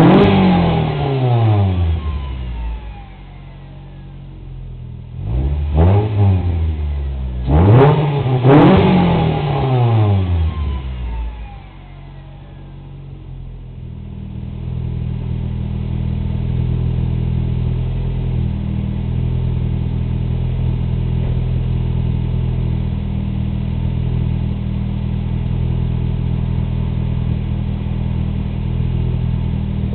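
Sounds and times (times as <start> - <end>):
car engine idling: 0.0 - 29.9
car engine revving: 0.0 - 29.9.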